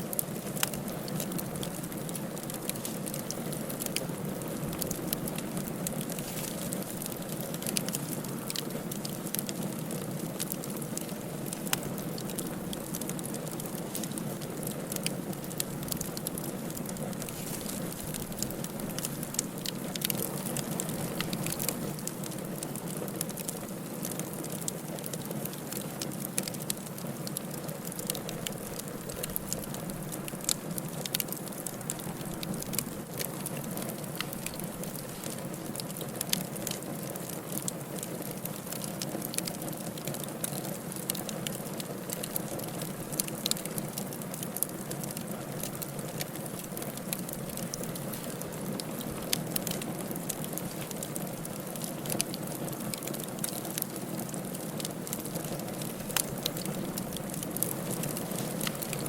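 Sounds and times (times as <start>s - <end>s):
firewood crackling in a fireplace: 0.0s - 59.0s.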